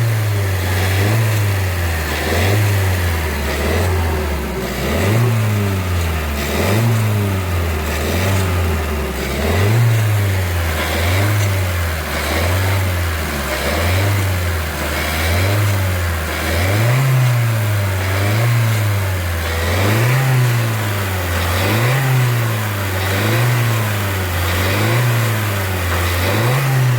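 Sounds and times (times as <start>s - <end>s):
car engine revving: 0.0s - 26.9s
engine chattering noise: 0.0s - 26.9s.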